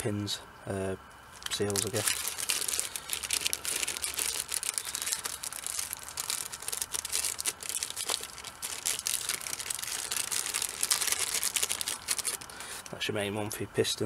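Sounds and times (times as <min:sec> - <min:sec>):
plastic packaging crinkling: 0:01.3 - 0:12.9.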